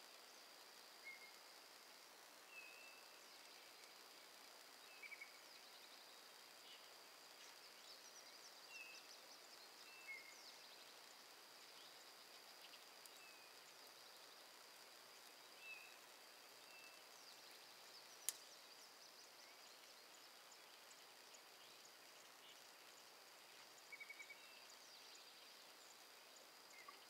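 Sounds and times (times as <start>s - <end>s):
faint bird chirps: 0.2s - 1.6s, 2.2s - 27.0s.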